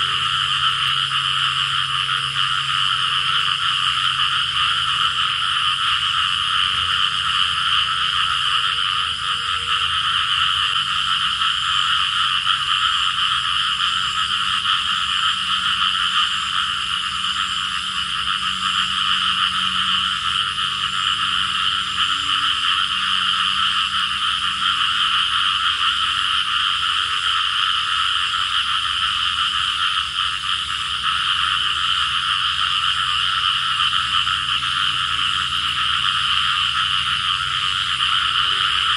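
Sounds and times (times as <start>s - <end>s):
chorus of calling frogs: 0.0s - 38.9s.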